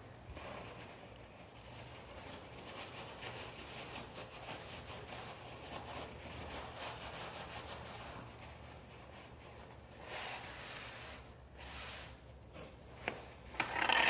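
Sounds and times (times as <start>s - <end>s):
paper towels rubbing: 0.3s - 12.8s.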